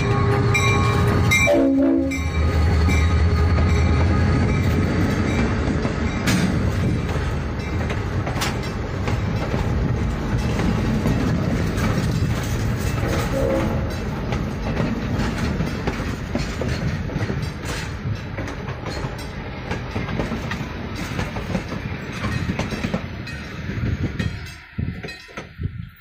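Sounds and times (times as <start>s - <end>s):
train wheels rumbling over rail joints: 0.0s - 26.0s.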